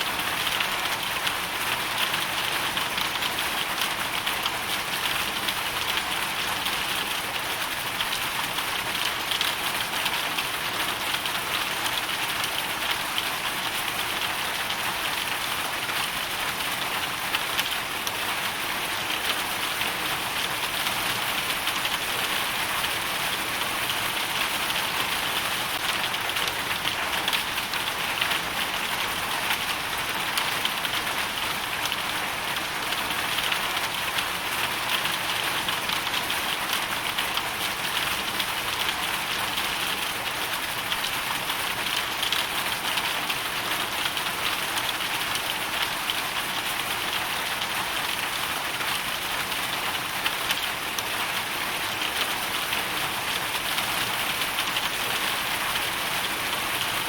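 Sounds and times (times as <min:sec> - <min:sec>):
hail and rain pattering: 0:00.0 - 0:57.0.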